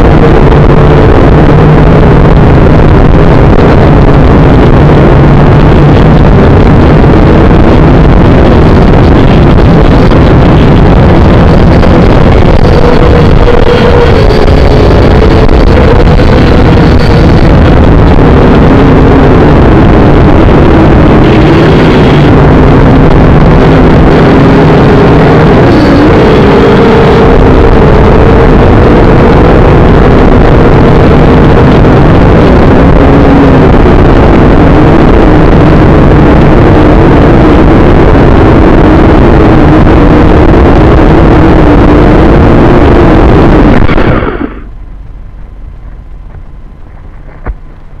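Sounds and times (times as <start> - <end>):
drone motors buzzing: 0.0 - 44.8
wind on microphone: 0.0 - 48.0.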